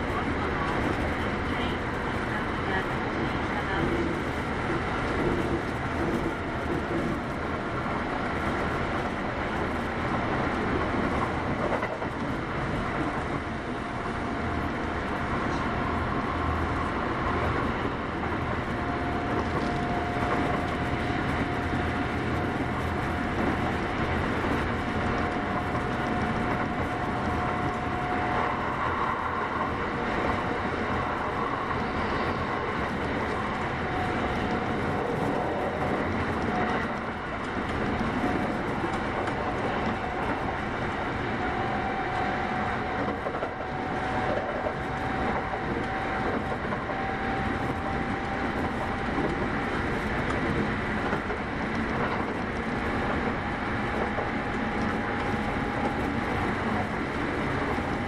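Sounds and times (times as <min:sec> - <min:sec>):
electric train rumbling: 0:00.0 - 0:58.0.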